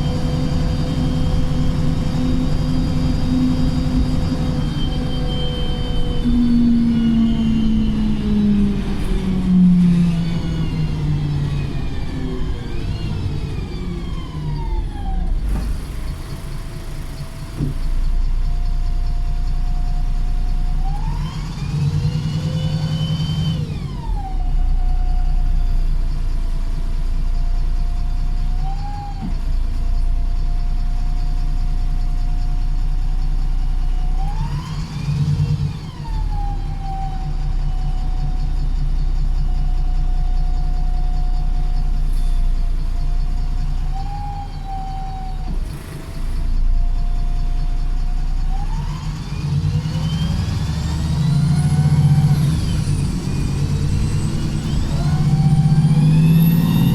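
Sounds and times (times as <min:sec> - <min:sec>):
high gearbox whine: 0:00.0 - 0:26.3, 0:32.6 - 0:56.9
bus engine running under load: 0:00.0 - 0:56.9.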